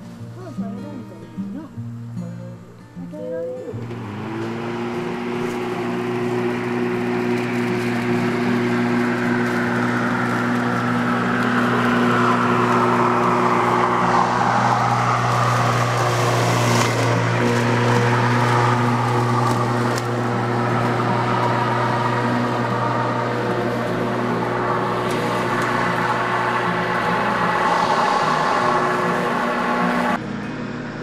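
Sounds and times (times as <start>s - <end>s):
lawn mower running: 3.8s - 31.0s.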